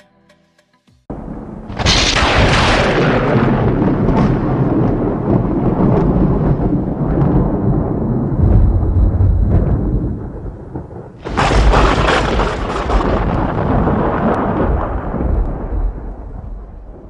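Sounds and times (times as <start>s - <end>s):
loud thunderclap rolling: 1.1s - 17.0s
low thunder rumble: 1.1s - 17.0s.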